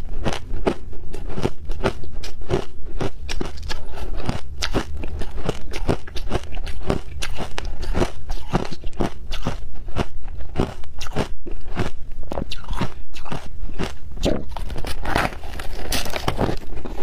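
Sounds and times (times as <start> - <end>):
crunchy ice chewing: 0.0 - 17.0.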